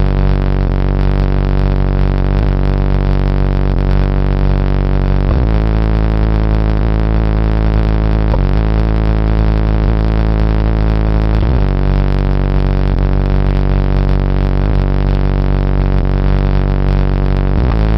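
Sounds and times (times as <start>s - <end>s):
bass-heavy droning music: 0.0s - 17.9s.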